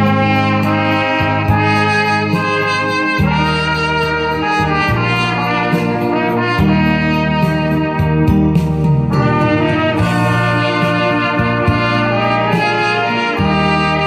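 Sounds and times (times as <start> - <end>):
horn-like melody: 0.0 - 14.0
steady bass accompaniment: 0.0 - 14.0.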